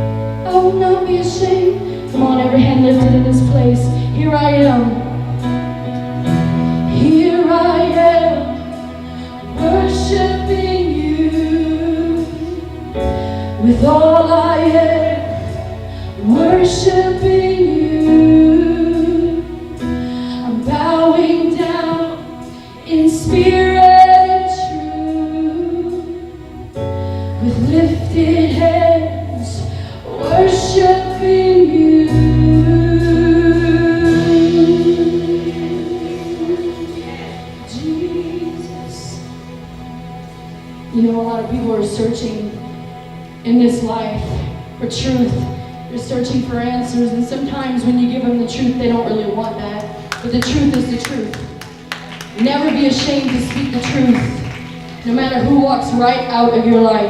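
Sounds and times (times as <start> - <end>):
sustained low bass notes: 0.0 - 51.6
worship band playing slow song: 0.0 - 57.0.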